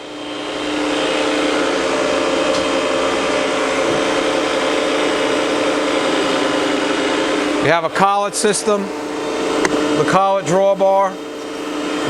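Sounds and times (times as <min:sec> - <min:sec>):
grinding machine running: 0:00.0 - 0:12.0.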